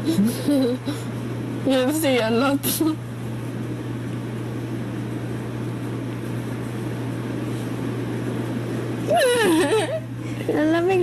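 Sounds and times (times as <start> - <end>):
low hum of room noise: 0.0 - 11.0.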